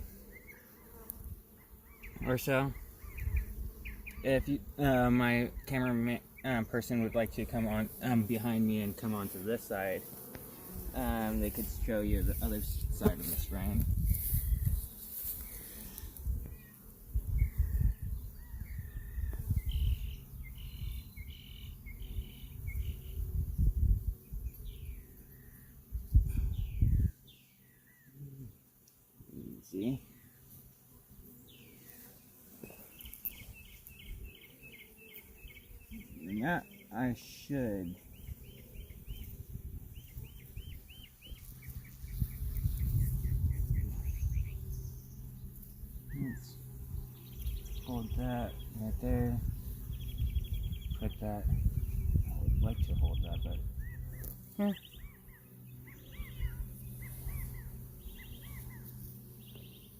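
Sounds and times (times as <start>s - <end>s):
honeybees buzzing: 0.0s - 59.9s
songbird chirping: 0.2s - 15.9s, 16.5s - 25.8s, 26.6s - 30.6s, 31.3s - 59.9s.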